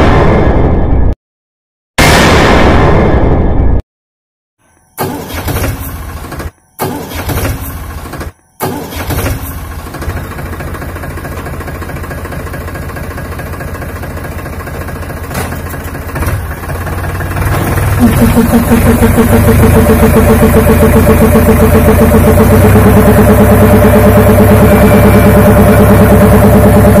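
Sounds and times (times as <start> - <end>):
tractor diesel engine running: 5.0 - 27.0.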